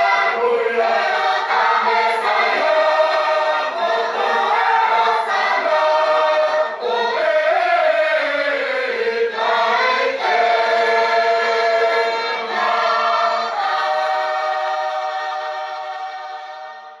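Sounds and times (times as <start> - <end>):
church choir singing a hymn: 0.0 - 17.0.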